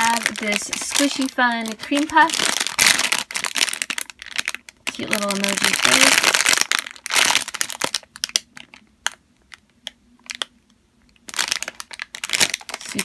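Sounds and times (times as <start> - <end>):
plastic bag crinkling: 0.0 - 10.5, 11.2 - 13.0.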